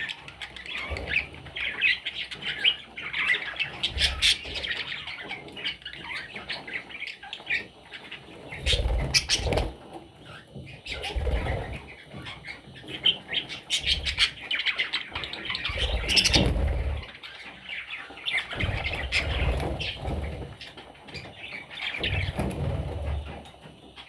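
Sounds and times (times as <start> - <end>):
budgerigar chicks chirping: 0.0 - 24.0.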